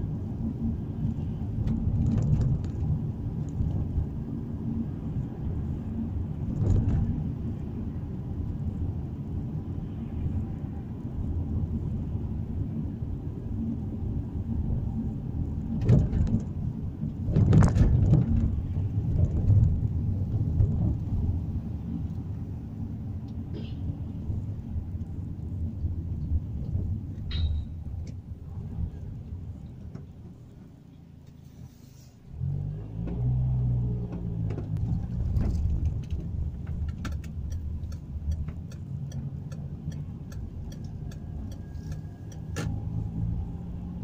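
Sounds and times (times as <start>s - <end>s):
car cabin road rumble: 0.0s - 44.0s.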